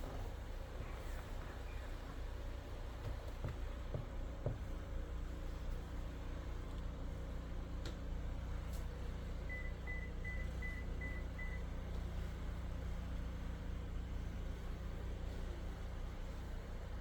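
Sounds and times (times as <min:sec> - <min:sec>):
car engine running with low rumble: 0:00.0 - 0:17.0.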